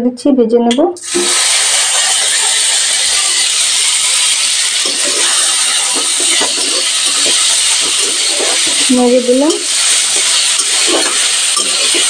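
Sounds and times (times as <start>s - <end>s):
vegetables sizzling in hot oil: 1.0s - 12.0s
metal spatula scraping pan: 1.5s - 12.0s.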